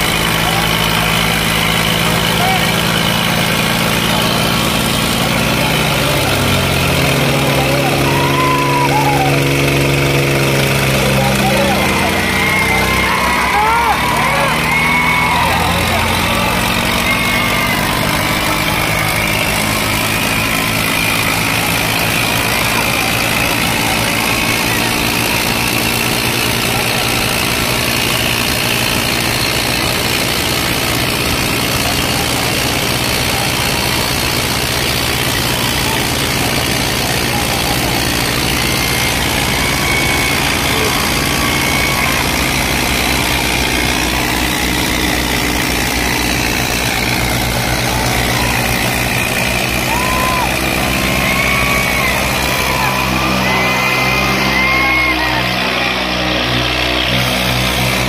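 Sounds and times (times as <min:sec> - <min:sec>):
tractor engines under heavy load: 0:00.0 - 0:58.0.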